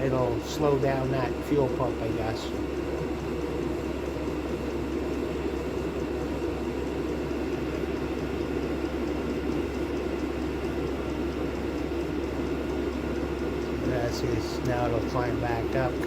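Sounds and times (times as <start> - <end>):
diesel air heater running: 0.0 - 16.0.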